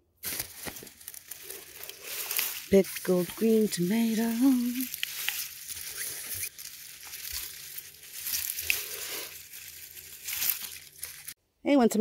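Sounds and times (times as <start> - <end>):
leaves and vines rustling: 0.2 - 11.4.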